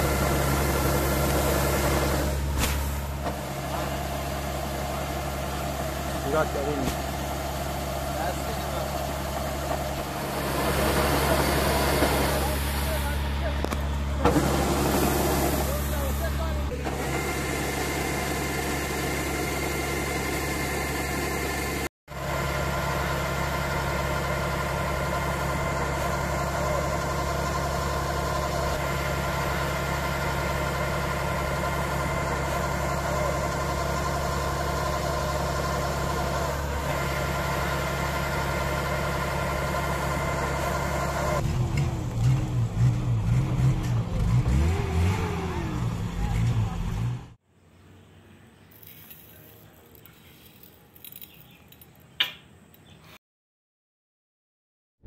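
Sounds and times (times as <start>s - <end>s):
threshing machine humming: 0.0s - 46.6s.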